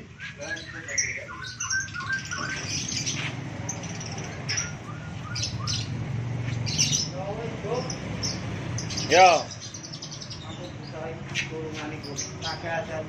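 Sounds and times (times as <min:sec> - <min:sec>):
caged birds calling: 0:00.0 - 0:13.0.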